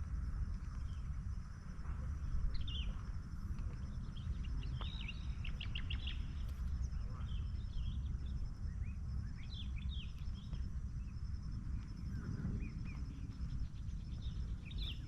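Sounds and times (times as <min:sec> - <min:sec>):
constant low rumble: 0:00.0 - 0:15.0
small birds chirping: 0:01.8 - 0:11.2, 0:11.8 - 0:15.0.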